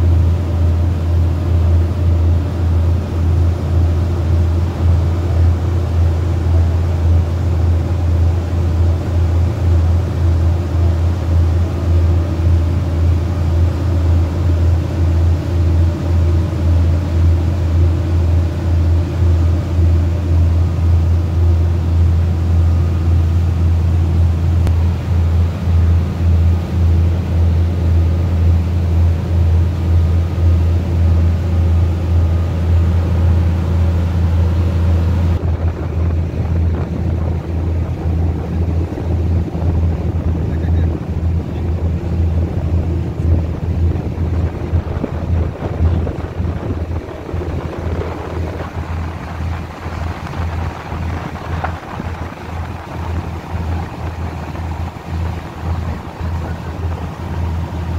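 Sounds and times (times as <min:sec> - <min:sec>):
boat engine drone: 0:00.0 - 0:57.9
wake rushing: 0:00.0 - 0:57.9.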